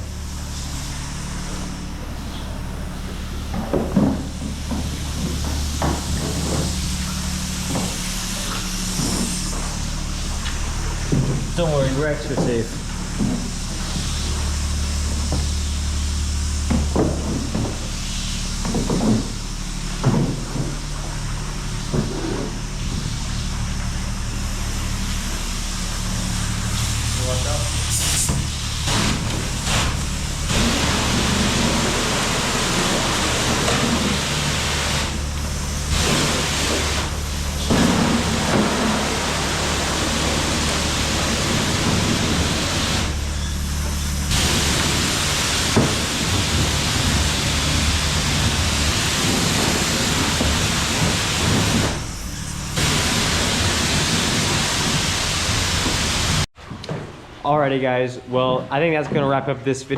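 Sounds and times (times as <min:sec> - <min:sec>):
pressure washer spraying water: 0:00.0 - 0:56.5.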